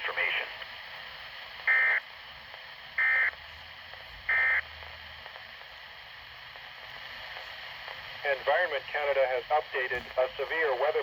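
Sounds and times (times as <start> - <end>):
steady broadcast hiss: 0.0 - 11.0.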